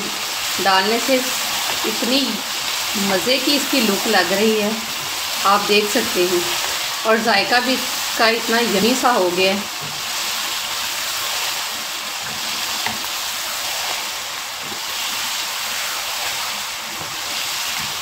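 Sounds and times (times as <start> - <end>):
food sizzling in oil: 0.0 - 18.0.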